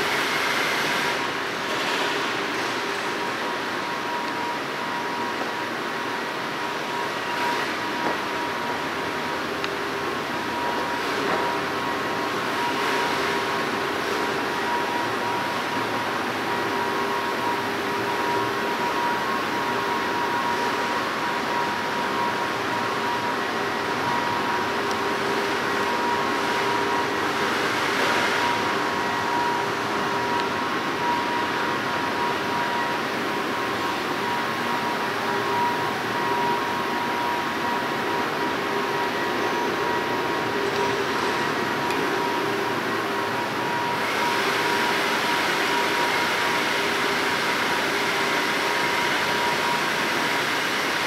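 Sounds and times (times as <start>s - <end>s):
blower humming tones: 0.0s - 51.0s.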